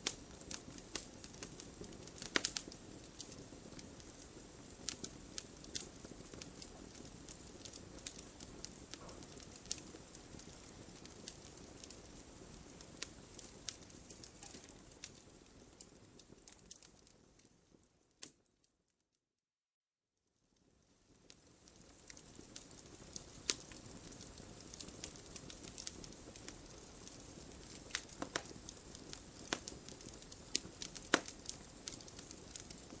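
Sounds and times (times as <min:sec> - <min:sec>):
wood fire crackling: 0:00.0 - 0:18.5, 0:20.5 - 0:33.0.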